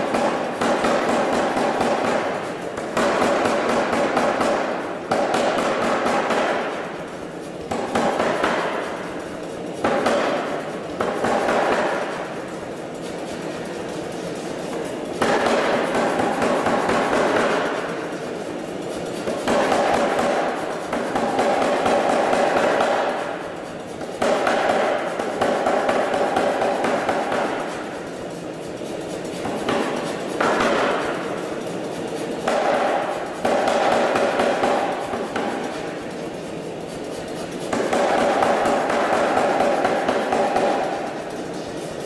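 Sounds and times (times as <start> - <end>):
power hammer striking hot steel: 0.0 - 9.1, 9.8 - 12.6, 14.7 - 18.4, 19.2 - 23.4, 24.0 - 28.1, 29.4 - 36.4, 37.5 - 41.4.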